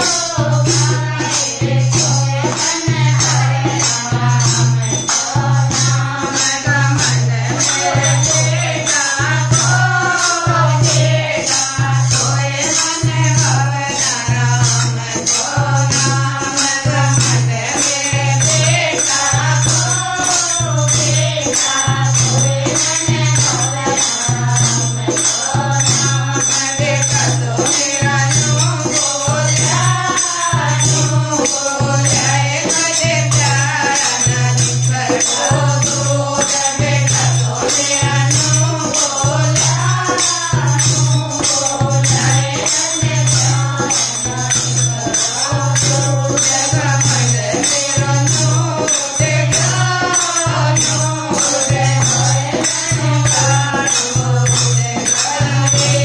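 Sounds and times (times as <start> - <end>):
hand drum beat: 0.0 - 56.0
jingling hand percussion: 0.0 - 56.0
women singing devotional song: 0.0 - 56.0.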